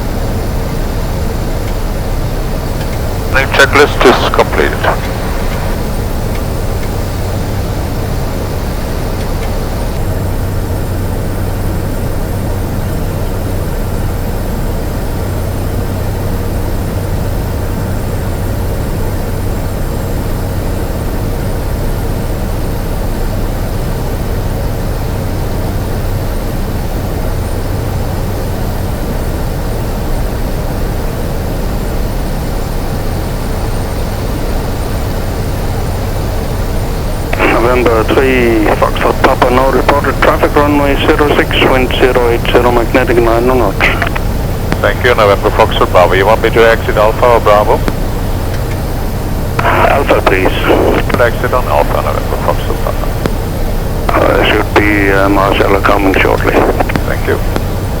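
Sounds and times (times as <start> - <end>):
turboprop droning: 0.0 - 58.0.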